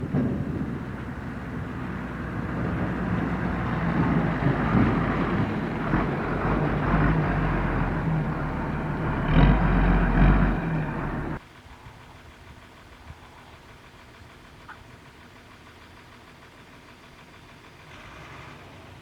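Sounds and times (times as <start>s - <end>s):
dump truck diesel engine: 0.0s - 19.0s.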